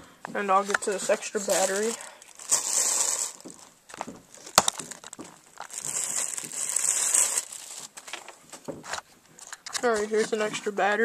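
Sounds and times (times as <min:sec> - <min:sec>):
plastic packaging crinkling: 0:00.5 - 0:10.3.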